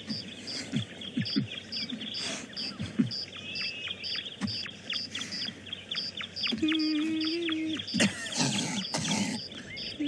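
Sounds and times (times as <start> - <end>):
birds chirping: 0.0 - 10.0
short low falling calls: 0.0 - 10.0.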